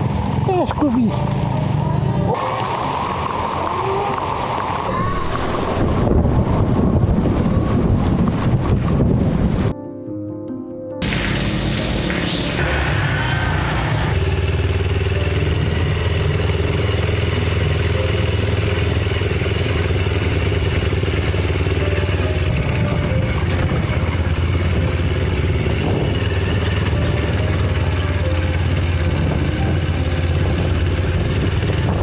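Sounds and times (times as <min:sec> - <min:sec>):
vehicle engine droning: 0:00.0 - 0:09.7, 0:11.0 - 0:32.0.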